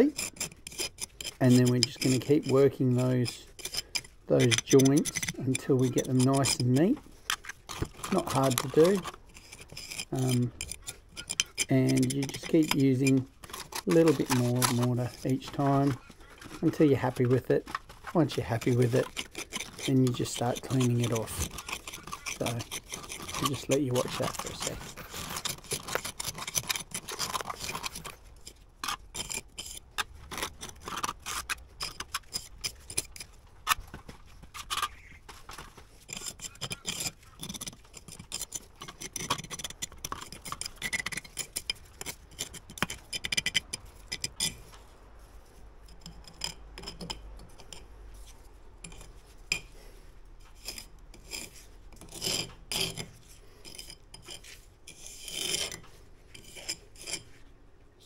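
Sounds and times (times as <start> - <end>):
steel tool scraping mortar joints: 0.0 - 44.9, 45.8 - 57.4.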